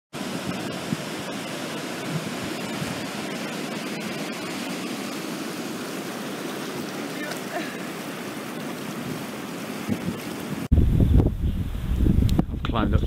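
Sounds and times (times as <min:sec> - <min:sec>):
river rushing over rapids: 0:00.2 - 0:10.7.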